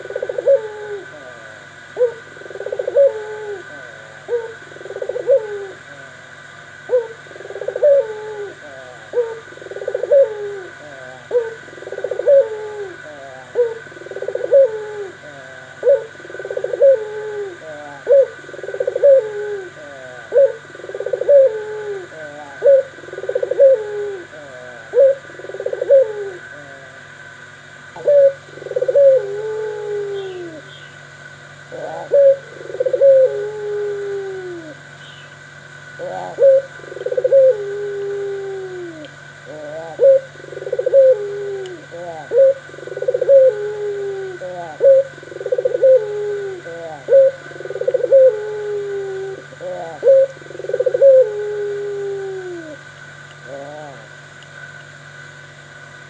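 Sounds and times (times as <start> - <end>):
bird cooing calls: 0.0 - 6.2, 6.8 - 27.0, 27.9 - 54.7
faint steady hum: 0.0 - 56.0.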